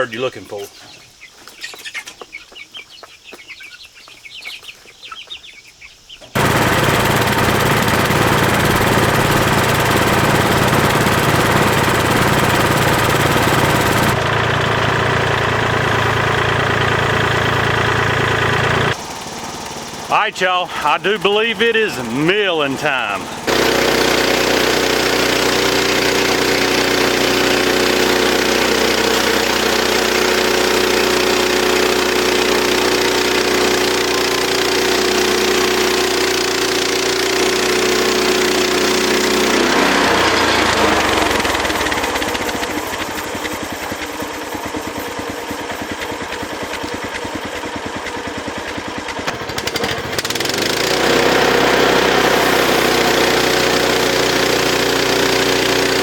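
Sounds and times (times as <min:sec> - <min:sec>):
sawmill engine running: 0:06.3 - 0:56.0.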